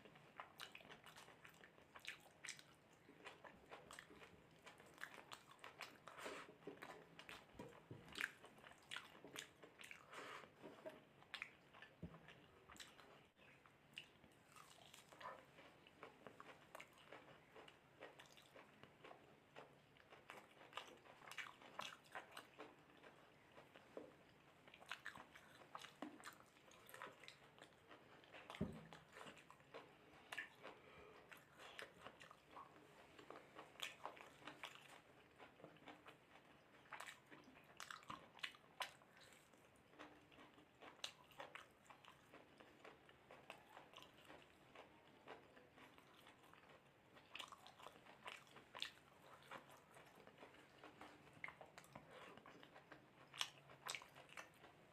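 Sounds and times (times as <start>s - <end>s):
chewing and biting food: 0.0s - 54.9s.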